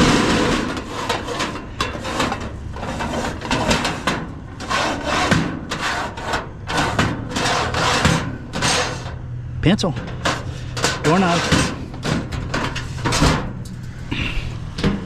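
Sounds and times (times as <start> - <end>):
objects scraping and knocking: 0.0 - 9.2, 9.8 - 15.0.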